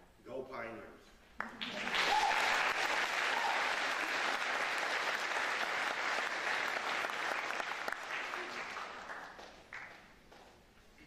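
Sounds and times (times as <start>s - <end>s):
audience applauding: 1.4s - 10.5s.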